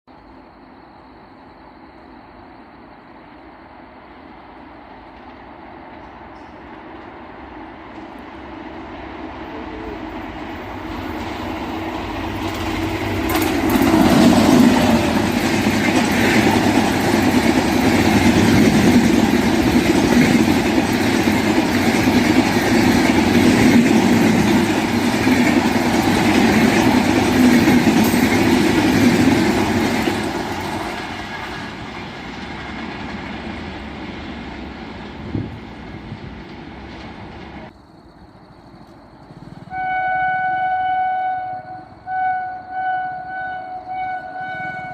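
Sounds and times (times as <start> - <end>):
train wheels rumbling on track: 0.1 - 44.9.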